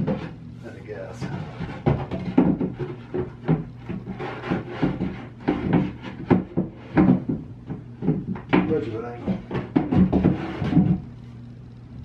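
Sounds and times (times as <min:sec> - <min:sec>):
wooden shelf knocking and scraping: 0:00.0 - 0:00.4, 0:01.2 - 0:11.1.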